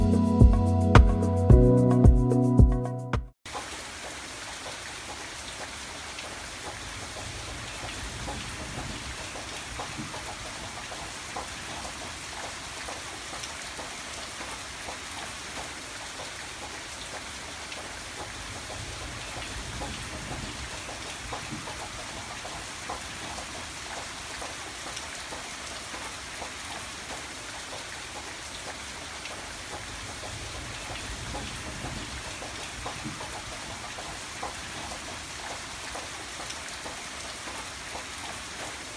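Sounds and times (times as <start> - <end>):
steady rain falling: 3.5 - 38.9.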